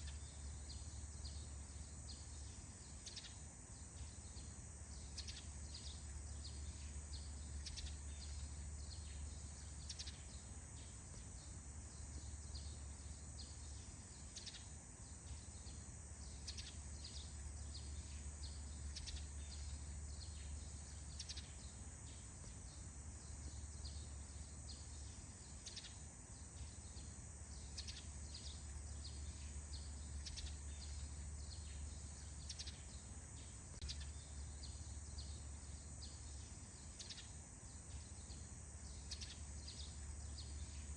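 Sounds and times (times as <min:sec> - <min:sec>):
birds chirping: 0:00.0 - 0:40.9
steady high hiss: 0:00.0 - 0:40.9.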